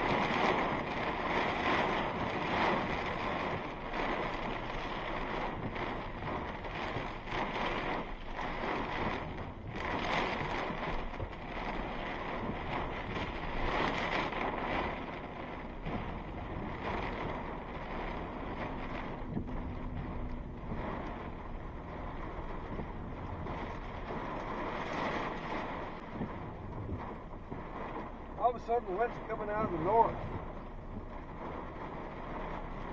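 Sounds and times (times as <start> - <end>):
strong wind gusts: 0.0 - 32.9.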